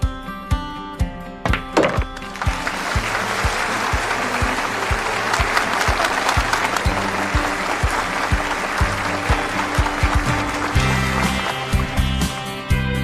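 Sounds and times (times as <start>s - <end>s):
audience applauding: 2.1s - 12.7s.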